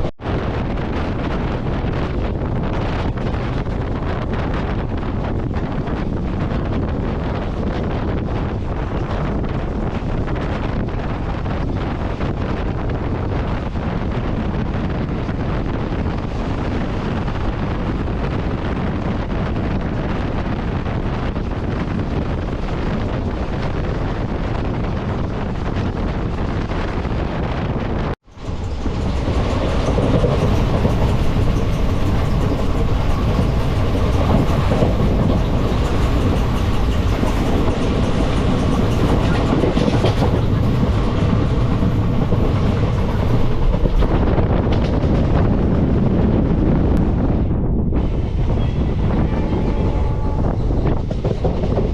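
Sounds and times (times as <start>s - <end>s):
passenger train rumbling on rails: 0.0s - 51.9s.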